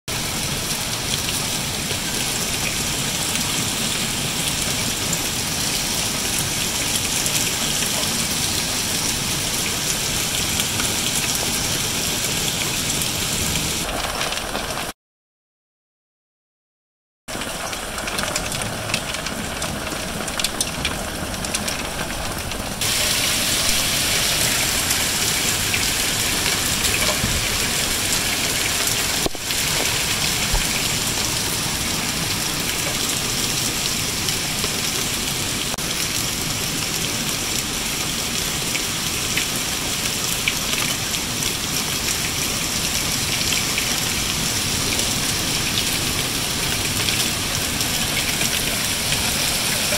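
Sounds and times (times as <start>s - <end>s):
heavy rain pouring: 0.1s - 14.9s, 17.3s - 49.9s.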